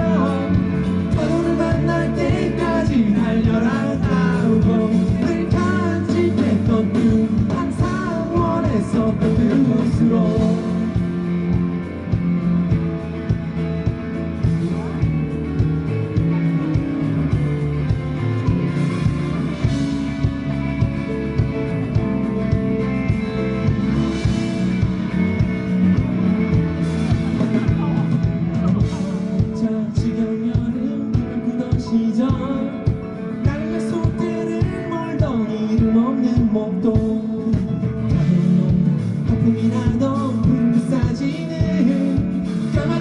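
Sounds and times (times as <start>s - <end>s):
pop-rock band playing: 0.0s - 43.0s.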